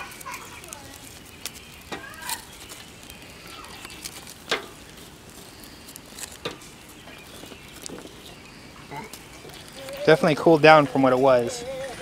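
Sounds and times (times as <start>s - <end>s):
onions sizzling on charcoal: 0.0s - 12.0s.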